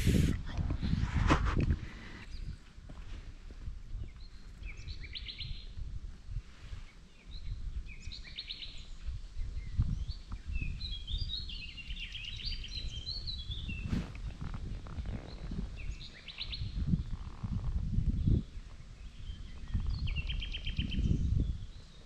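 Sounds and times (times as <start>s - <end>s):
songbirds singing: 1.9s - 2.7s, 3.9s - 6.0s, 6.6s - 22.0s.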